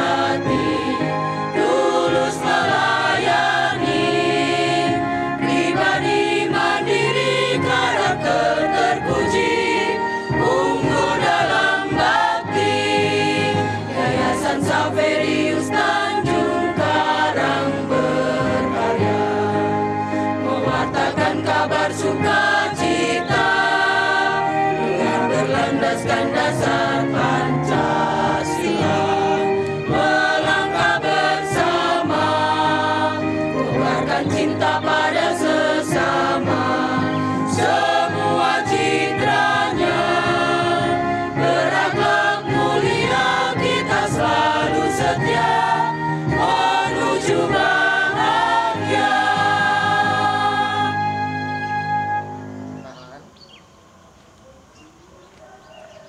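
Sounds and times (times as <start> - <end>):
mixed choir singing: 0.0 - 52.4.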